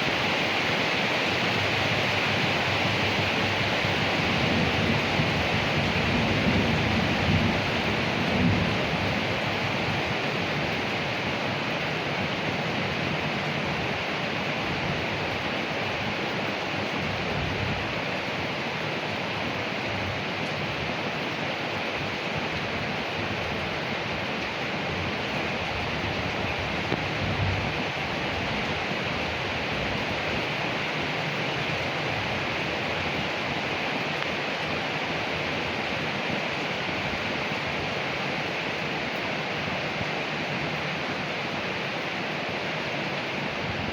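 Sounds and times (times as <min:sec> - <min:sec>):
rain falling on leaves: 0:00.0 - 0:43.9.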